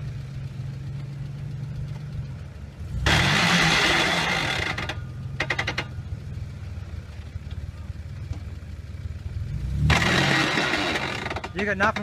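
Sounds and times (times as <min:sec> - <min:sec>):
engine running and revving: 0:00.0 - 0:12.0.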